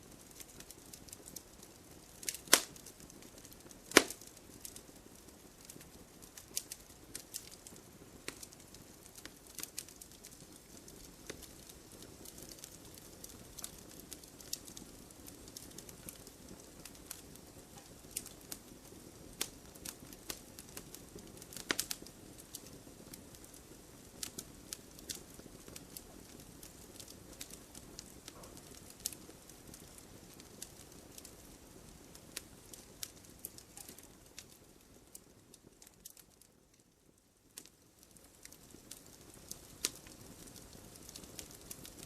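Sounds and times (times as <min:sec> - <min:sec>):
wood fire popping and snapping: 0:00.0 - 0:42.0.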